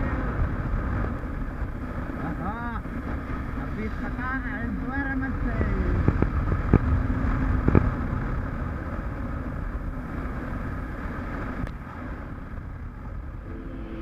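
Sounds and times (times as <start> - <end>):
motorcycle engine drone: 0.0 - 14.0
wind rushing over microphone: 0.0 - 14.0.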